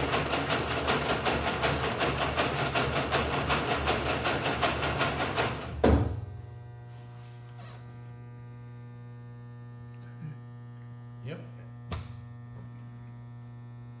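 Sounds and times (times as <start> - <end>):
braiding machine electric hum: 0.0 - 14.0.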